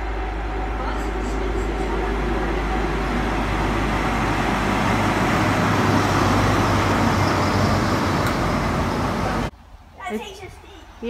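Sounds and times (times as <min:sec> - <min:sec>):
train passing at speed: 0:00.0 - 0:09.5.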